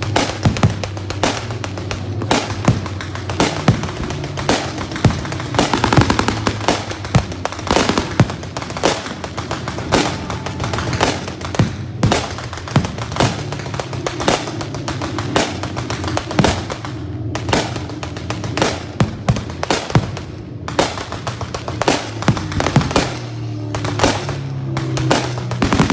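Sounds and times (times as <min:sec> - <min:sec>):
blank gunfire bangs: 0:00.0 - 0:25.9
pyrotechnic bursts: 0:00.0 - 0:25.9.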